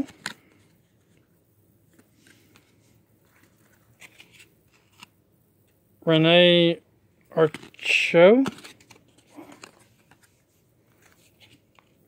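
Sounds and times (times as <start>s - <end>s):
paper cards handled: 0.0s - 5.2s, 7.3s - 12.0s.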